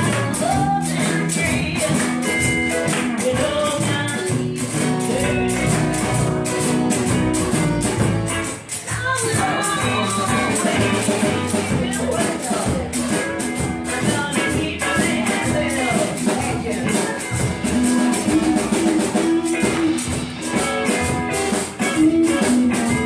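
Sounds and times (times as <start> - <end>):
live blues band playing: 0.0 - 23.0.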